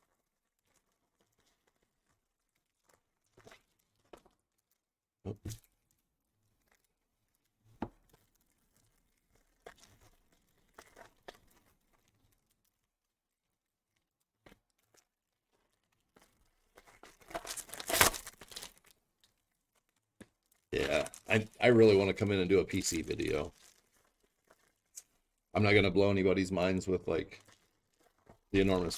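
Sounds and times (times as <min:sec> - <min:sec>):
wrapping tearing and crinkling: 0:00.0 - 0:04.9, 0:05.6 - 0:28.9.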